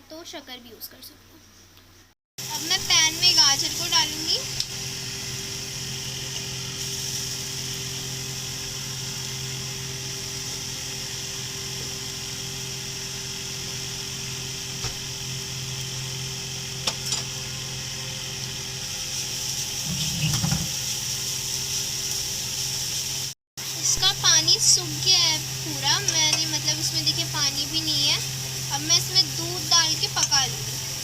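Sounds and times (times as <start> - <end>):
carrots sizzling in a pan: 2.4 - 31.0.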